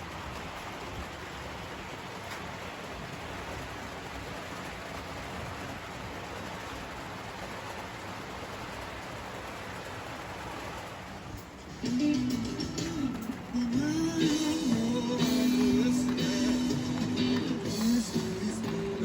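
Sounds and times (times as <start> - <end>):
model train rolling on track: 0.0 - 19.0.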